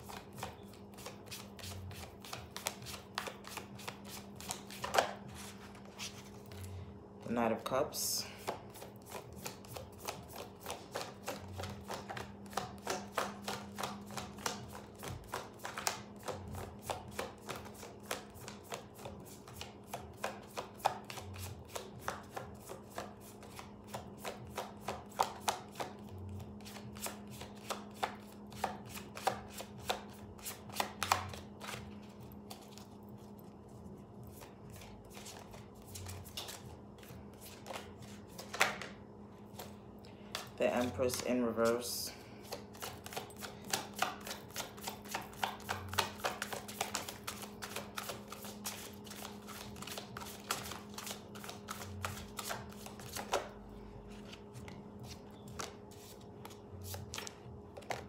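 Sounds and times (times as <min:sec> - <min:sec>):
cards shuffling: 0:00.0 - 0:06.8, 0:08.3 - 0:58.0.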